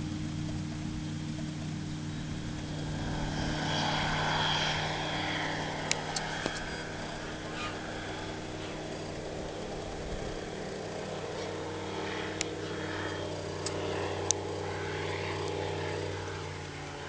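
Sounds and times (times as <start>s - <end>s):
aircraft engine running: 0.0s - 17.0s.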